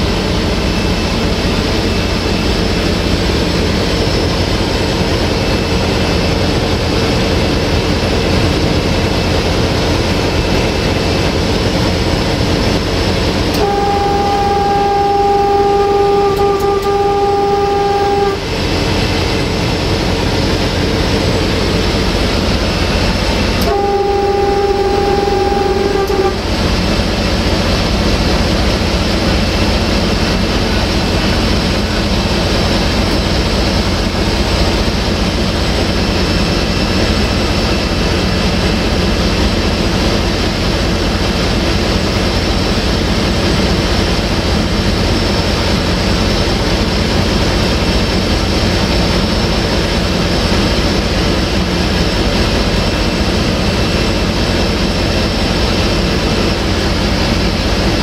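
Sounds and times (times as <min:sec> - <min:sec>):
locomotive horn blast: 0:00.0 - 0:50.7
diesel engine running: 0:00.0 - 0:58.0.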